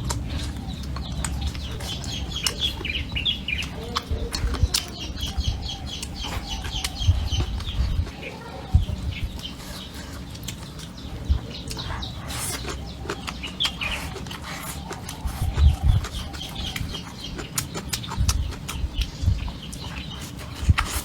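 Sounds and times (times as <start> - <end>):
chickens clucking: 0.0 - 21.0
person eating: 0.0 - 21.0.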